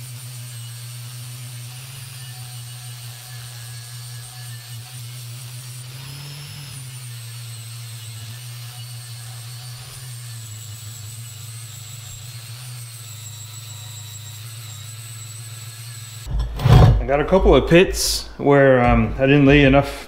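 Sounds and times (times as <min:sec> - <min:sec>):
angle grinder grinding steel: 0:00.0 - 0:19.7.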